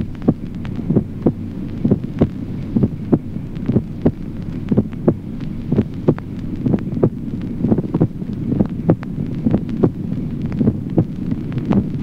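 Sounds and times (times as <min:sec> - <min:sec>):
heartbeat lub-dub: 0:00.0 - 0:12.0
low steady hum: 0:00.0 - 0:12.0.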